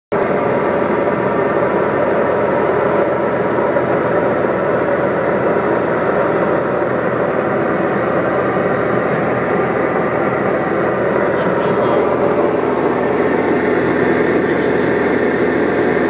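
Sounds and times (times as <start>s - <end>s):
light aircraft engine and propeller drone: 0.1s - 16.0s.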